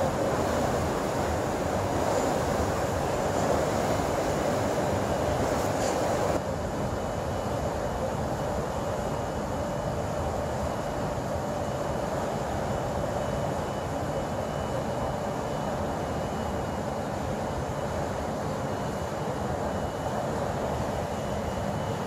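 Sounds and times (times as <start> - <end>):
steady mechanical drone: 0.0 - 22.0.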